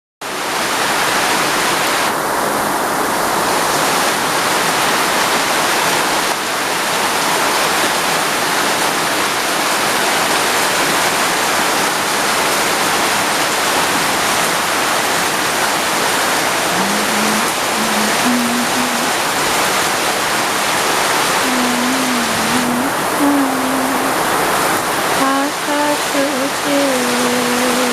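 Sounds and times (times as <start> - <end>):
heavy rain falling: 0.2 - 27.9.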